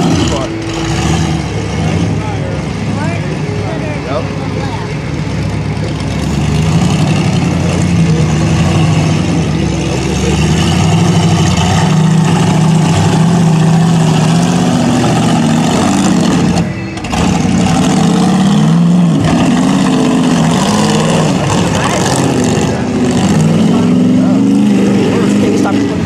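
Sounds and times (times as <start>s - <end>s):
buggy engine revving hard: 0.0s - 26.0s.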